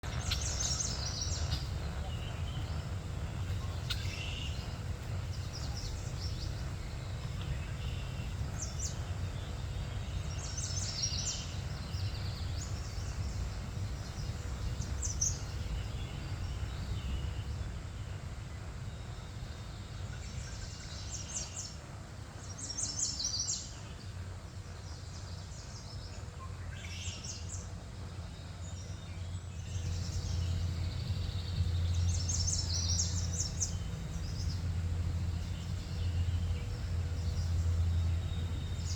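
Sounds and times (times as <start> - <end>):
steady low rumble: 0.0 - 22.5, 29.5 - 38.9
small birds chirping: 0.0 - 38.9.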